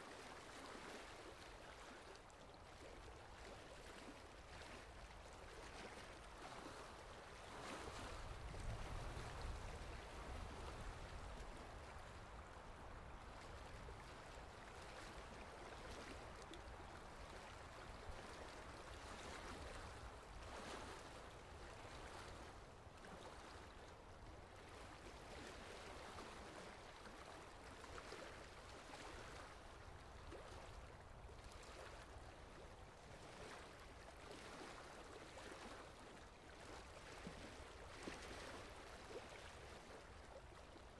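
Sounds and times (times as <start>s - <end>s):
faint running water: 0.0s - 40.9s.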